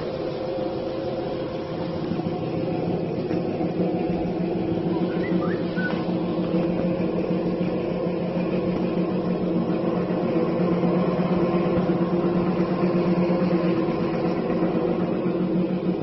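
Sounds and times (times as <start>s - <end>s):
treadmill motor hum: 0.0s - 16.0s.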